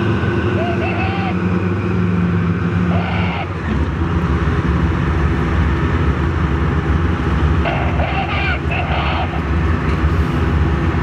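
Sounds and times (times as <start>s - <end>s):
tank diesel engines running: 0.0s - 11.0s.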